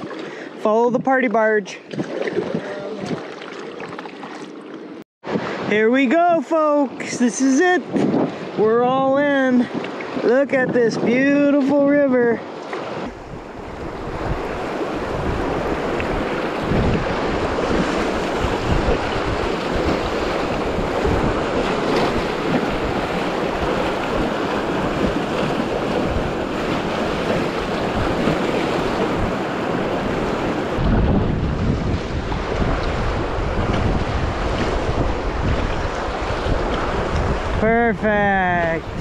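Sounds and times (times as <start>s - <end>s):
whitewater rushing and splashing: 1.2s - 39.0s
wind buffeting microphone: 1.8s - 3.4s, 6.6s - 39.0s.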